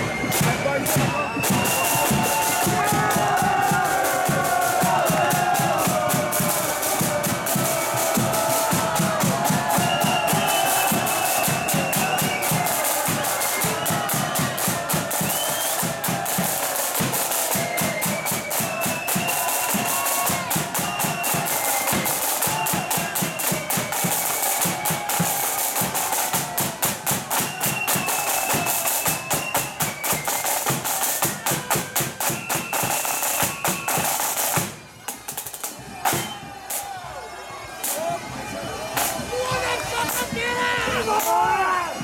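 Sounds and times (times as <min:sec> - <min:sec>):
snare drums rolling: 0:00.0 - 0:36.9, 0:37.8 - 0:38.2
flute band playing: 0:00.0 - 0:42.0
high flute tune: 0:00.0 - 0:42.0.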